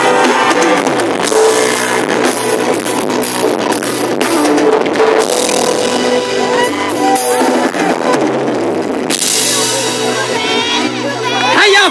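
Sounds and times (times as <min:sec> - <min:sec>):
live band over speakers: 0:00.0 - 0:11.9.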